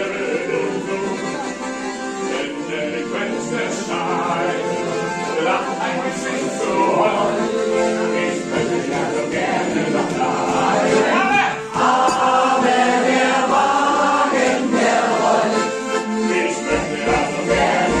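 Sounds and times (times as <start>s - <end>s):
voices singing along: 0.0s - 1.6s, 2.2s - 18.0s
accordion playing folk tune: 0.0s - 18.0s.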